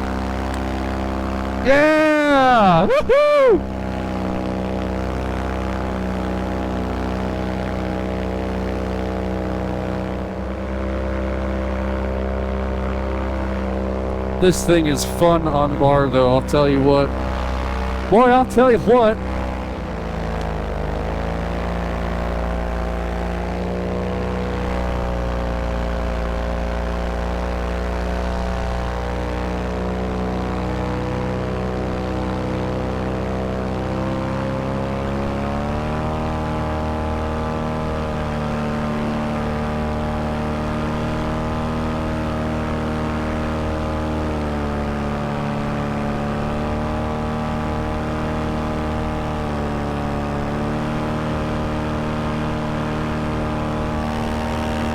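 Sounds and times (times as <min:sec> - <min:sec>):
paramotor engine and propeller drone: 0:00.0 - 0:54.9.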